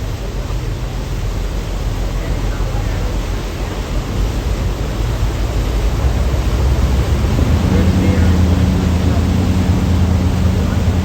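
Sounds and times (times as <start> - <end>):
boat engine drone: 0.0 - 11.0
wind and water rushing: 0.0 - 11.0.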